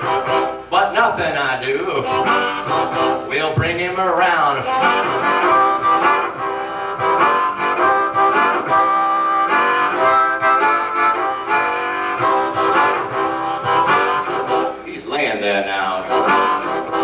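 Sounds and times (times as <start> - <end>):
harmonica playing: 0.0 - 17.0.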